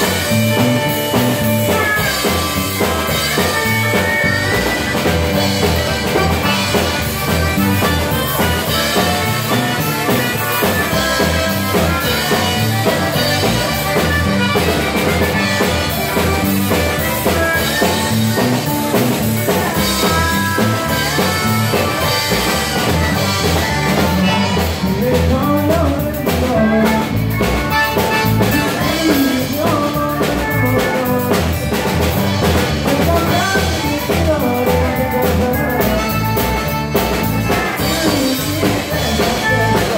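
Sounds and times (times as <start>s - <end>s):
bass guitar: 0.0s - 39.9s
button accordion: 0.0s - 39.9s
drum kit steady beat: 0.0s - 39.9s
steel guitar: 0.0s - 39.9s.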